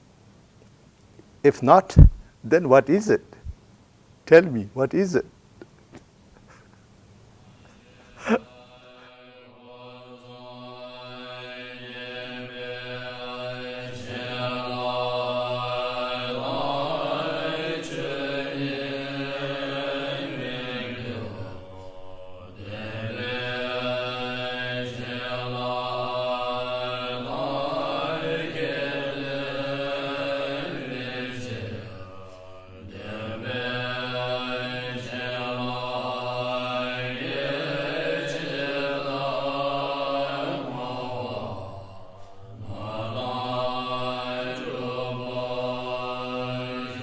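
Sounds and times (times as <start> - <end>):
low voice chanting: 7.8 - 47.0.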